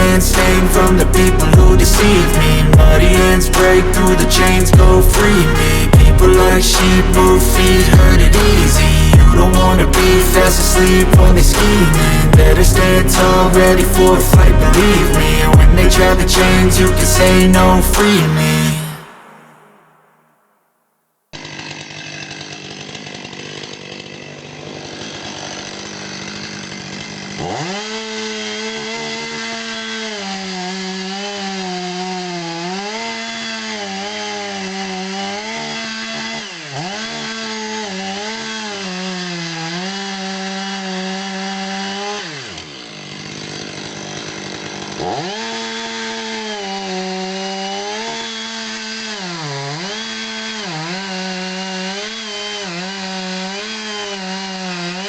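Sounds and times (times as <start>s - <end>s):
chainsaw cutting wood: 0.0s - 20.0s, 21.3s - 55.0s.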